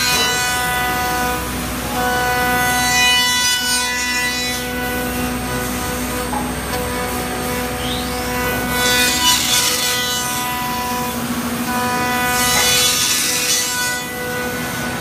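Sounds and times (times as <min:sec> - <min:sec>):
router bit cutting wood: 0:00.0 - 0:15.0
router spindle whine: 0:00.0 - 0:15.0.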